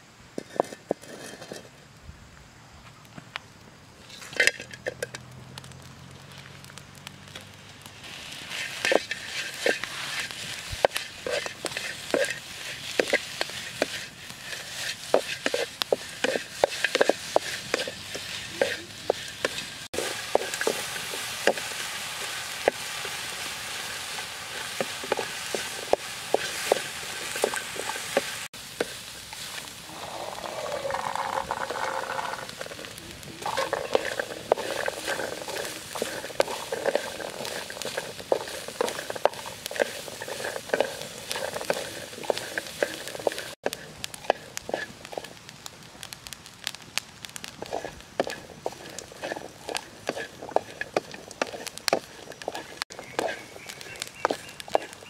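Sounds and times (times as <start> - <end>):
wooden spatula scraping a wok: 0.4 - 1.8, 4.0 - 5.2, 7.3 - 45.4, 47.4 - 55.0
stir-fry sizzling in a wok: 4.1 - 46.8, 47.4 - 55.0.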